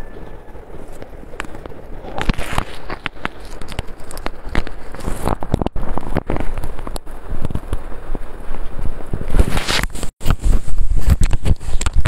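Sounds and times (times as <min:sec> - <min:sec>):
irregular crackling: 0:00.0 - 0:12.0.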